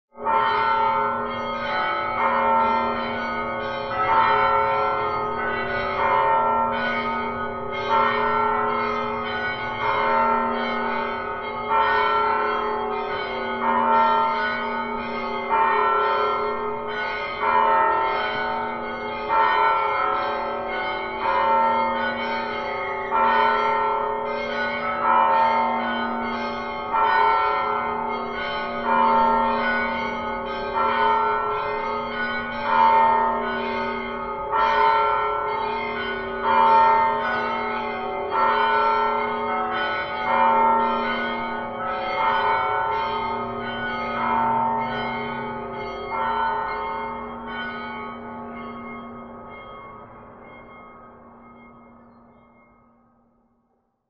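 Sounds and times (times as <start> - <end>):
church bells ringing: 0.2 - 53.6.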